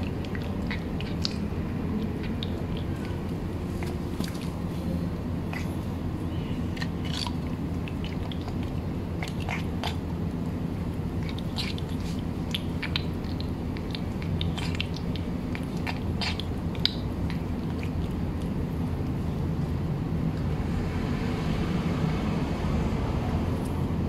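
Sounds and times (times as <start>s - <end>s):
cat chewing and licking: 0.0s - 20.5s
steady low hum: 0.0s - 24.0s.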